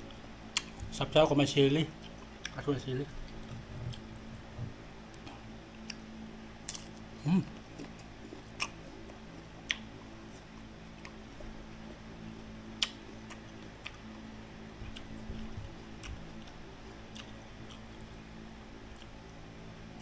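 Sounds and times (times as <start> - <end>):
steady low hum: 0.0 - 20.0
chewing and crunching: 1.9 - 20.0.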